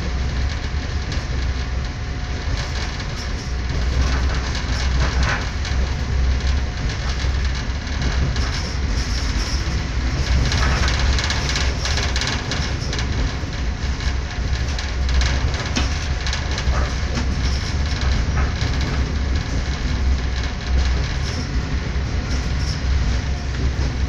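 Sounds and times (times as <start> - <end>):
train rumbling from inside carriage: 0.0 - 24.0.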